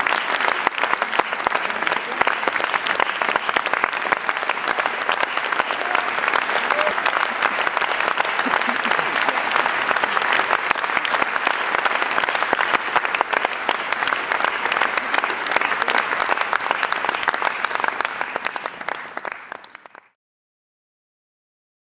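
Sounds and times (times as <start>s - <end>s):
audience applauding: 0.0s - 20.2s.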